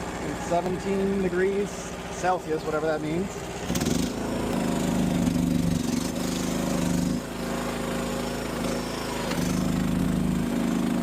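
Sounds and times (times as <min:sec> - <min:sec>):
small gasoline engine running: 0:00.0 - 0:11.0.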